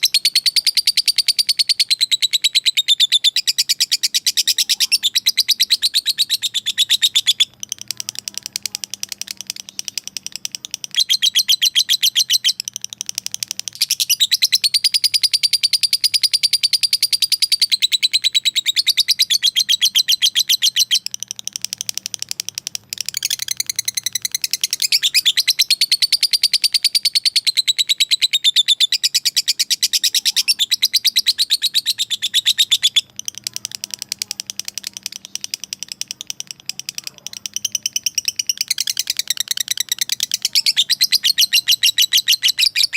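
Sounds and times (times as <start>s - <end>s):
lovebird chattering trill: 0.0s - 42.9s.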